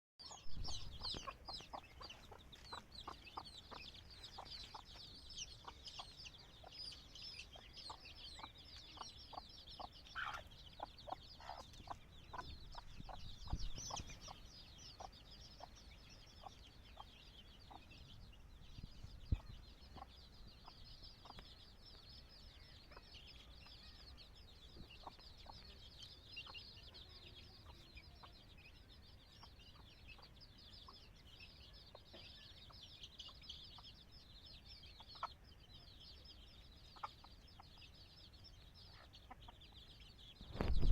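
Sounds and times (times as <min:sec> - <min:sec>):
chickens clucking: 0:00.2 - 0:40.9.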